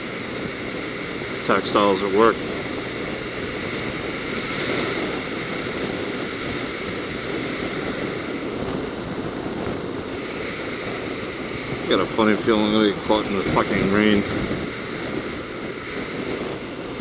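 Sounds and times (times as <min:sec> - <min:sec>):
motorcycle road noise: 0:00.0 - 0:17.0
wind buffeting microphone: 0:00.0 - 0:17.0.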